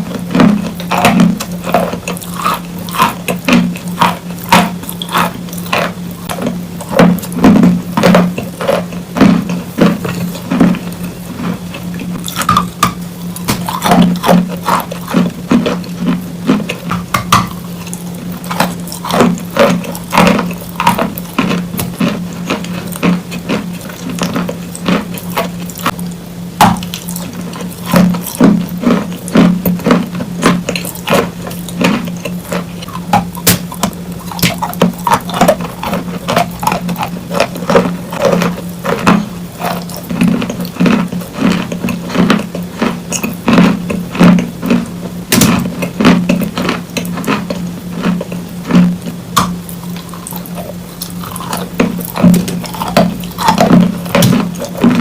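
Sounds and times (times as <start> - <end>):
chewing crunches: 0.0 - 55.0.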